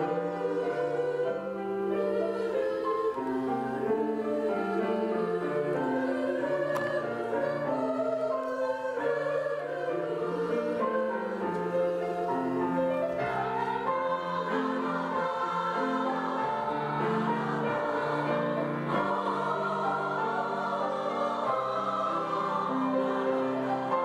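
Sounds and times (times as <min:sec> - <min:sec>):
piano accompaniment: 0:00.0 - 0:24.0
women's choir singing: 0:00.0 - 0:24.0.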